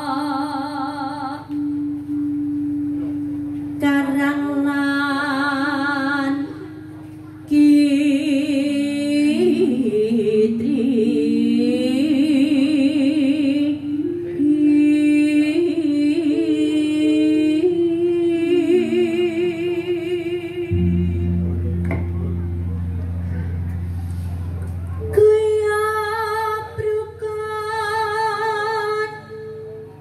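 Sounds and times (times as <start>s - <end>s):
woman singing into microphone: 0.0s - 2.4s, 3.7s - 22.1s, 24.9s - 30.0s.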